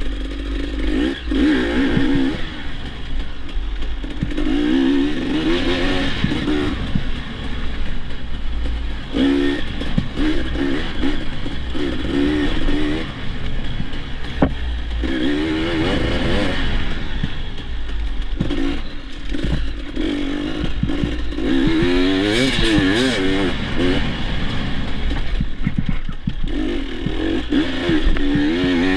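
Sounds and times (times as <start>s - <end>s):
dirt bike engine revving: 0.0s - 28.9s
knocks and clatter: 1.8s - 28.9s.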